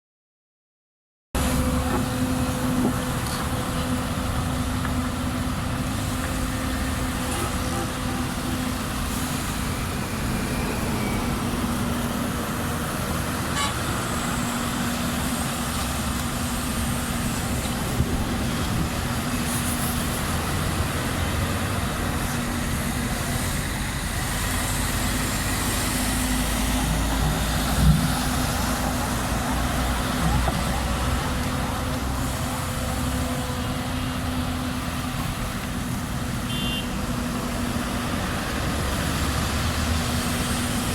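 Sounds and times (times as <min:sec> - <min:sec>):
excavator diesel engine running: 0:01.4 - 0:40.9.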